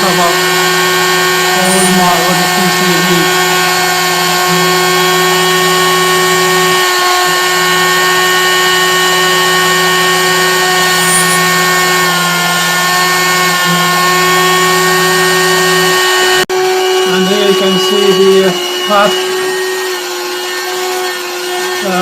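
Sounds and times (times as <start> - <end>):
machine spindle whining: 0.0 - 22.0.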